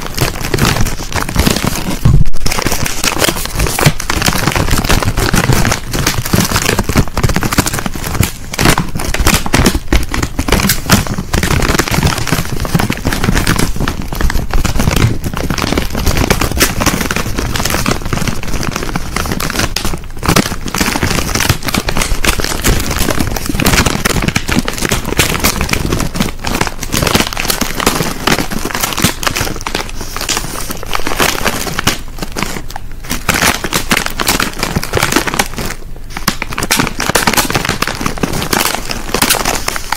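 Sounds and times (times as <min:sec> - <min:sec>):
crisp packet crinkling: 0:00.0 - 0:39.9.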